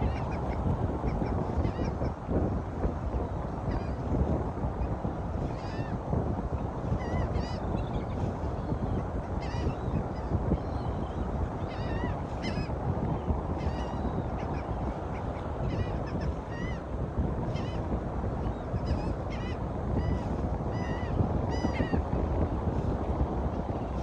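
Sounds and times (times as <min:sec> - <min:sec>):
wind and surf rushing: 0:00.0 - 0:24.0.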